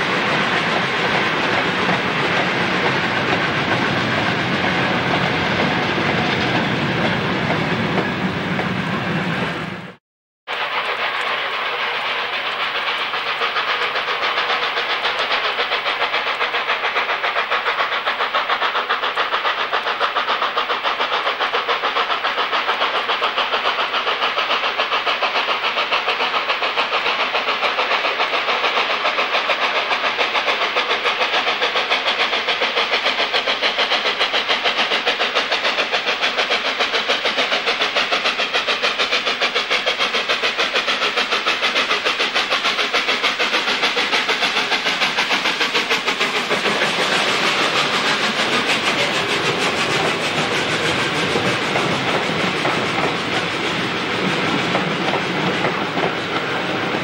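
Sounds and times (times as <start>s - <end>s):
steam locomotive exhaust beat: 0.0s - 57.0s.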